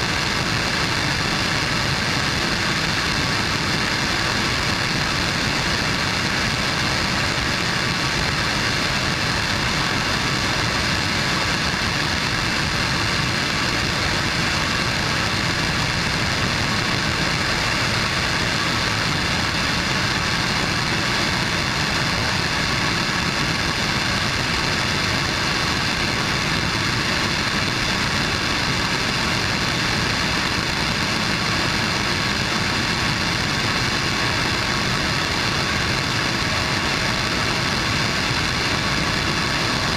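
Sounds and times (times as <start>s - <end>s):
rocket engine firing: 0.0s - 39.9s.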